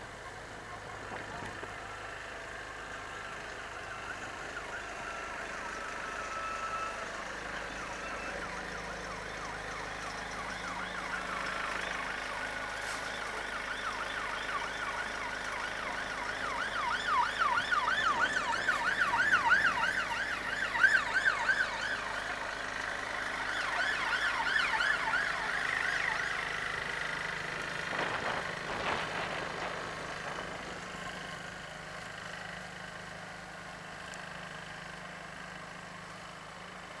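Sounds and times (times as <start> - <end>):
siren wailing: 0.6 - 31.8.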